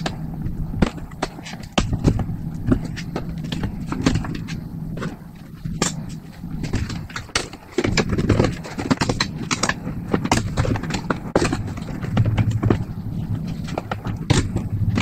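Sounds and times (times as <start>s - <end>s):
plastic car parts clicking and knocking: 0.0s - 15.0s
steady low hum: 0.0s - 15.0s.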